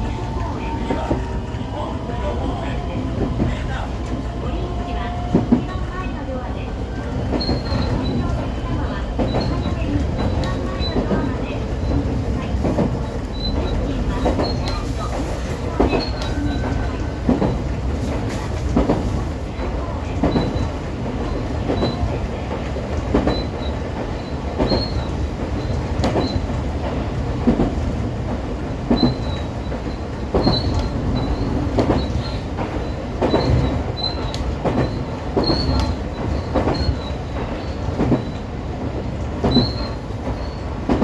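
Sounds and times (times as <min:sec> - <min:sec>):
train wheels clicking over rail joints: 0:07.1 - 0:41.0.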